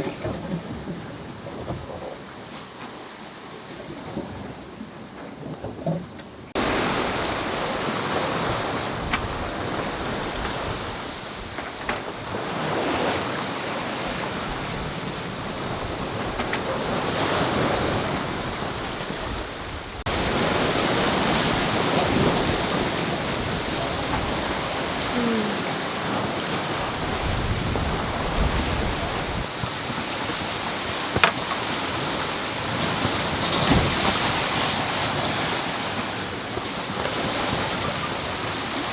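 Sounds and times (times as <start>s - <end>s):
waves: 0.0s - 38.9s
wind at sea: 0.0s - 38.9s
wind buffeting microphone: 3.8s - 38.9s.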